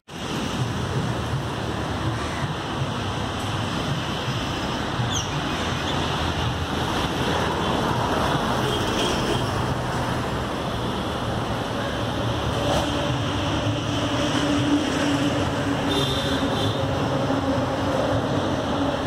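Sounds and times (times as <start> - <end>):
highway traffic noise: 0.0 - 19.0.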